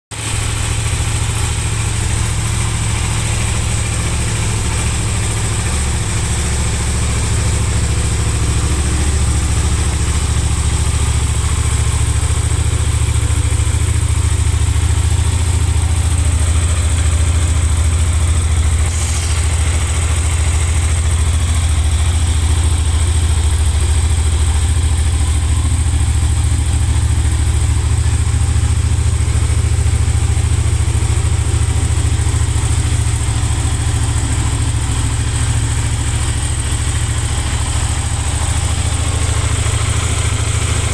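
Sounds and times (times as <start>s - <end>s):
motorcycle engine idling: 0.1s - 40.9s.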